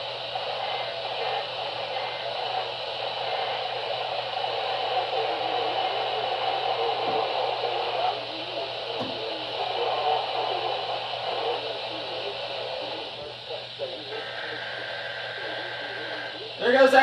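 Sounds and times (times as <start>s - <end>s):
faint indistinct radio audio: 0.0s - 17.0s
radio static and hiss: 0.0s - 17.0s.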